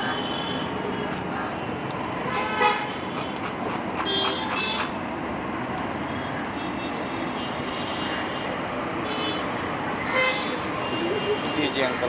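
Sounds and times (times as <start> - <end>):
busy street traffic: 0.0 - 12.0.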